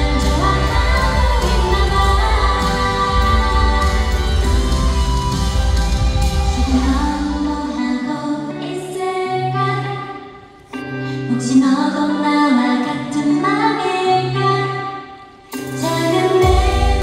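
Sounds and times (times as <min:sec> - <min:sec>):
woman singing a slow ballad: 0:00.0 - 0:04.7, 0:06.5 - 0:17.0
soft instrumental backing: 0:00.0 - 0:17.0.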